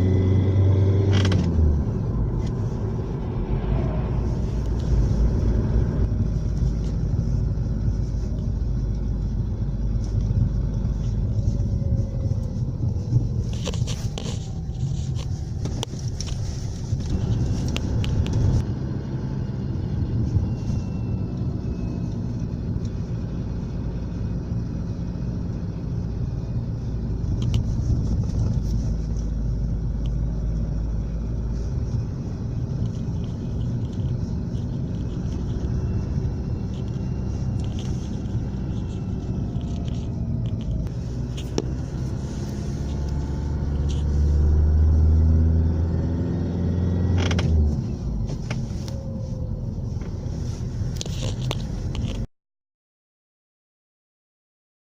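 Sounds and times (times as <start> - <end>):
car engine running: 0.0 - 52.2.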